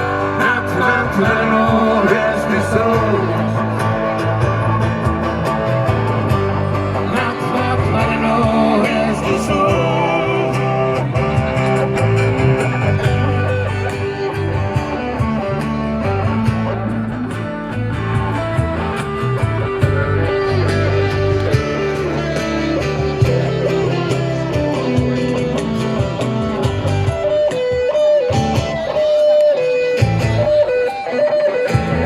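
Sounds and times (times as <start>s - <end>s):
bass line: 0.0s - 29.1s
drums: 0.0s - 32.0s
lead guitar: 0.0s - 32.0s.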